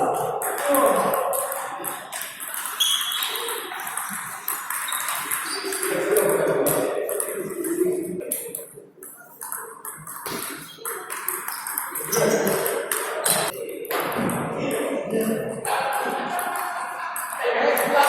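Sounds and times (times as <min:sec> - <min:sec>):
table tennis balls clicking: 0:00.0 - 0:18.0.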